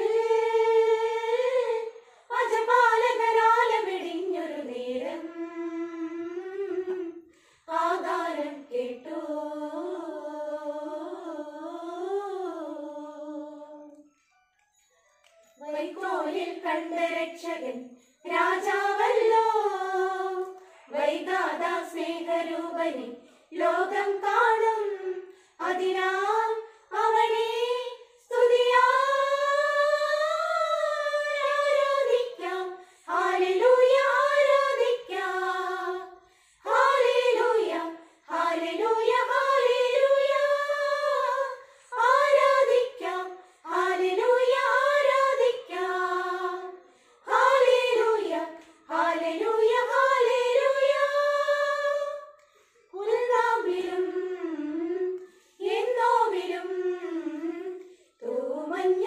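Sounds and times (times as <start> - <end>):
women's choir singing a carol: 0.0 - 14.0, 15.6 - 59.0.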